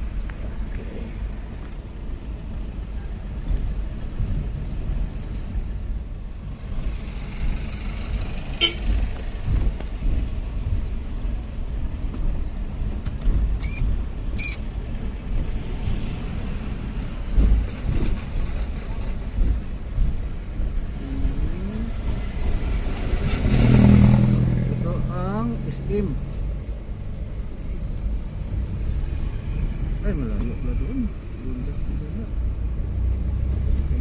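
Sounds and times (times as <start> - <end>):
city street traffic rumbling: 0.0 - 34.0.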